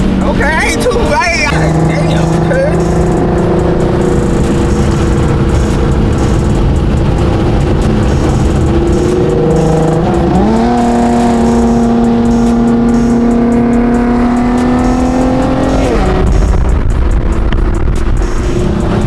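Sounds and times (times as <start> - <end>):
car engine accelerating hard: 0.0 - 19.0
wind and road noise: 0.0 - 19.0.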